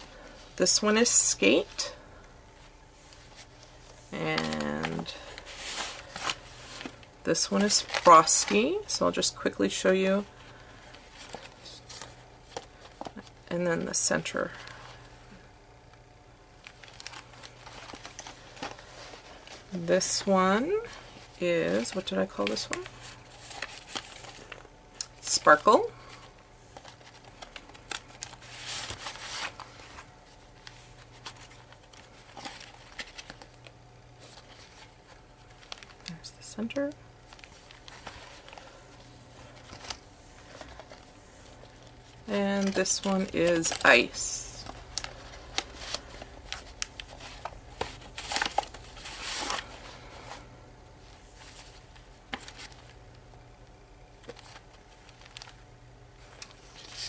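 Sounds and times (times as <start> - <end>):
paper pages rustling: 2.6 - 8.9, 10.2 - 15.1, 16.6 - 53.0, 54.2 - 55.6, 56.2 - 57.0.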